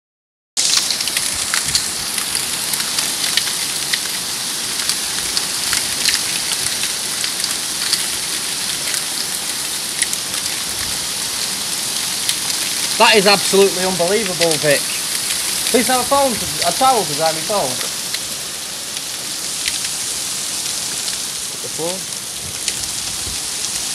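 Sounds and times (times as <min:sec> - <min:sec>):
hail impacts ticking: 0:00.6 - 0:23.9
torrential rain hissing: 0:00.6 - 0:23.9.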